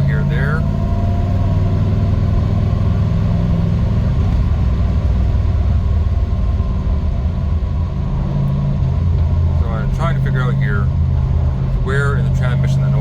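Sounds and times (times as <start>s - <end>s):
car engine and exhaust rumble: 0.0s - 13.0s.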